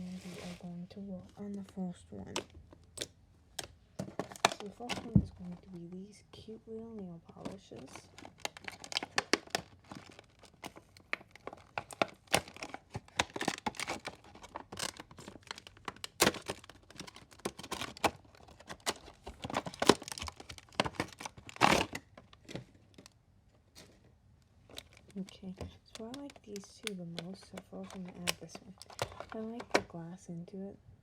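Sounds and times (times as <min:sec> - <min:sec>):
plastic packaging crinkling and tearing: 0:02.3 - 0:05.8, 0:07.3 - 0:29.9.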